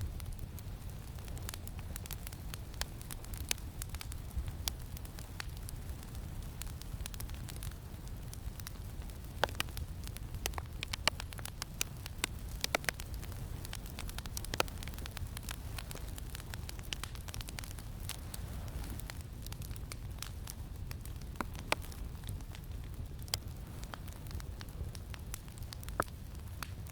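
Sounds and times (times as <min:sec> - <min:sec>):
campfire crackling: 0:00.0 - 0:26.9.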